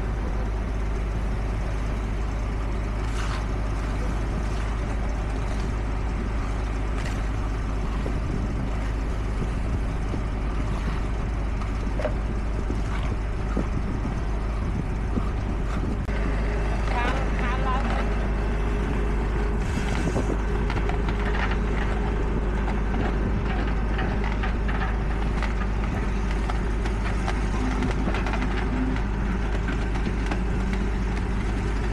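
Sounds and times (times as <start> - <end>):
construction machinery diesel engine: 0.0 - 31.9.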